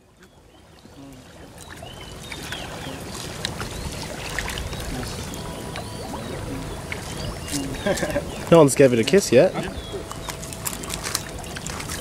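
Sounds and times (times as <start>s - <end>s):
steady hiss of water: 0.0s - 12.0s.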